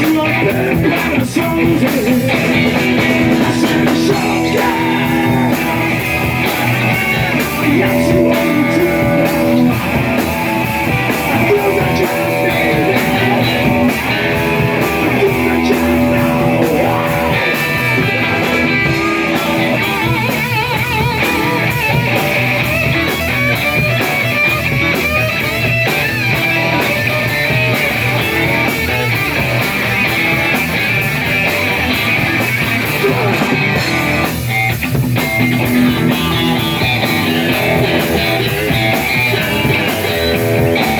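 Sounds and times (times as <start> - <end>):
bass guitar: 0.0 - 40.9
drum kit: 0.0 - 40.9
electric guitar: 0.0 - 40.9.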